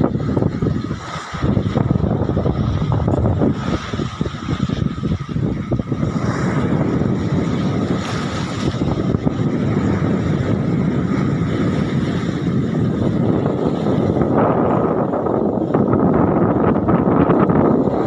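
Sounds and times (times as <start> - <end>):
sea waves washing on concrete: 0.0 - 18.0
wind rumbling on microphone: 0.0 - 18.0.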